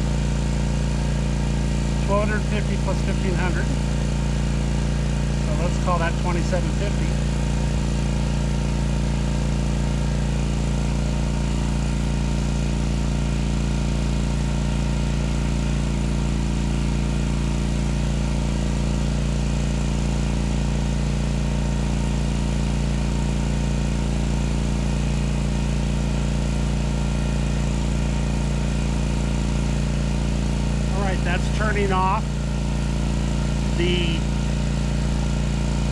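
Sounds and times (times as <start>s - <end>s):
generator engine running steadily: 0.0s - 35.9s.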